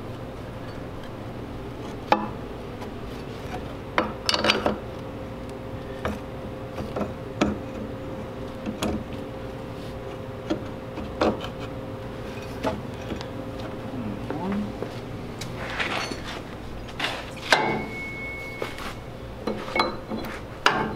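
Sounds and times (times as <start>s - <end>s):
low steady hum: 0.0s - 20.9s.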